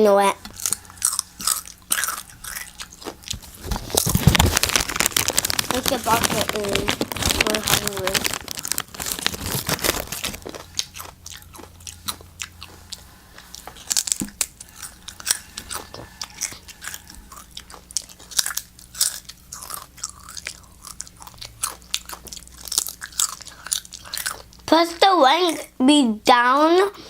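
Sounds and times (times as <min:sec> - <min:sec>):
crunching tortilla chips: 0:00.5 - 0:24.7.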